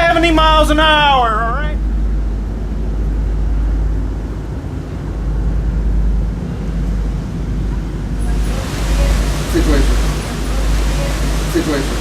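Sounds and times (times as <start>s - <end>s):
wind gusting on microphone: 0.0s - 12.0s.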